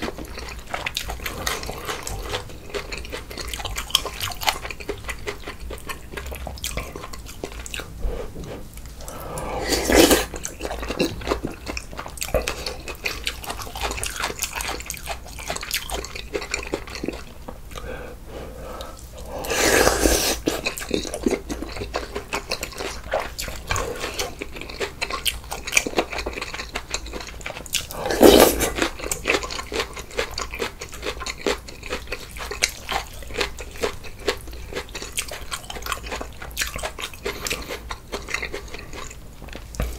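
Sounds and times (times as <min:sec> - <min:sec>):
close chewing with wet clicks: 0:00.0 - 0:08.0, 0:10.2 - 0:17.9, 0:20.4 - 0:39.9.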